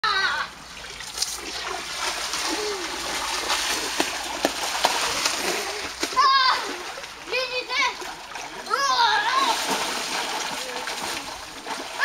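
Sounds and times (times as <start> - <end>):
water splashing in a pool: 0.0 - 12.0
sharp slaps of water: 0.9 - 12.0.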